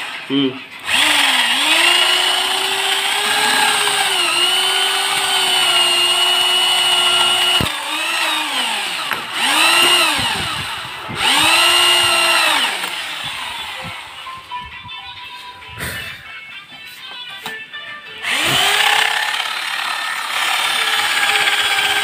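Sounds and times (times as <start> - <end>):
electric drill boring wood: 0.0 - 14.2, 18.2 - 22.0.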